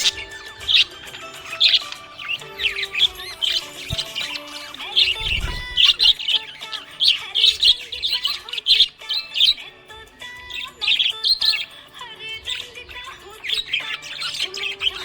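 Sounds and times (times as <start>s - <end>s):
background music: 0.0s - 15.0s
parrots chirping and chattering: 0.0s - 15.0s.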